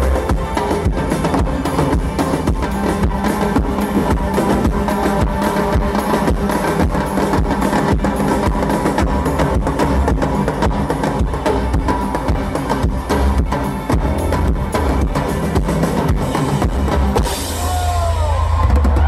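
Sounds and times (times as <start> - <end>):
drum-kit beat: 0.0 - 19.0
live synth-pop band playing: 0.0 - 19.0.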